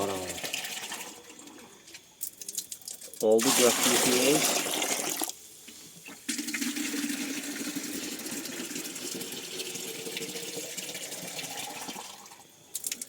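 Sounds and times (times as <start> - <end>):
water pouring into a container: 0.0 - 1.7, 2.3 - 5.4, 6.3 - 13.0.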